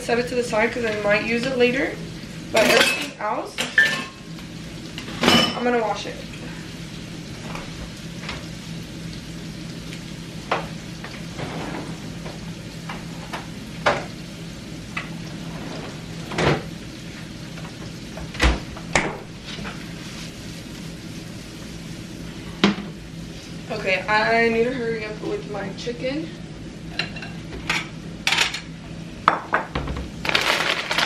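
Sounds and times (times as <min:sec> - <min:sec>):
low steady hum: 0:00.0 - 0:29.3
pan sizzling: 0:00.0 - 0:31.0.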